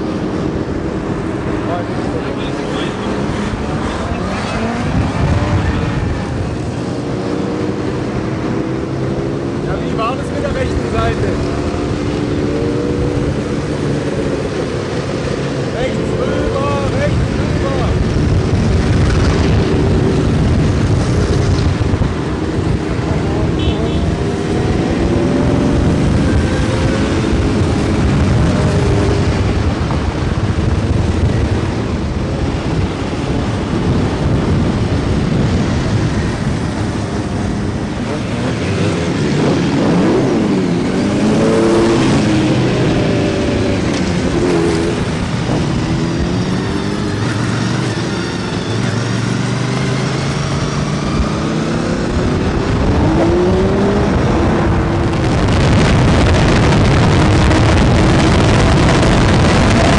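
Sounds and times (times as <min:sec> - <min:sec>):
motorcycle engines: 0:00.0 - 0:59.9.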